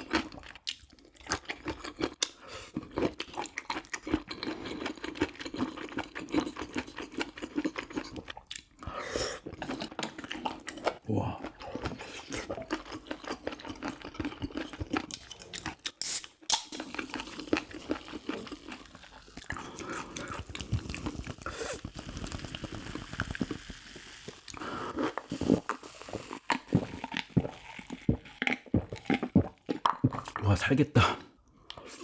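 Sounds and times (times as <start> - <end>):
person chewing and crunching: 0.0 - 32.0.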